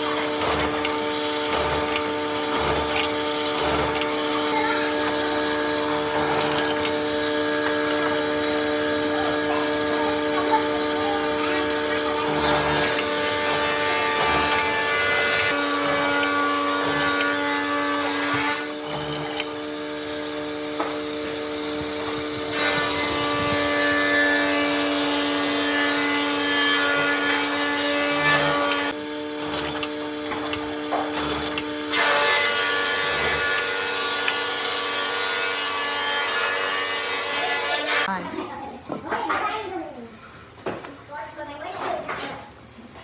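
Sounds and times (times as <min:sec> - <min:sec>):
power tool grinding wood: 0:00.0 - 0:38.2.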